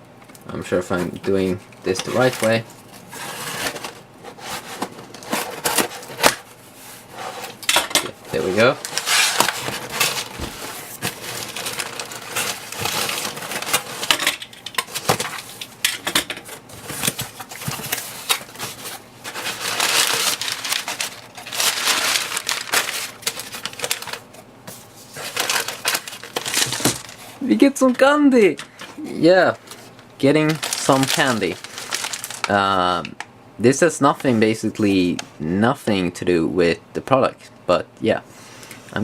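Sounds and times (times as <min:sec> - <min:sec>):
paper packaging rustling: 0:00.9 - 0:33.0.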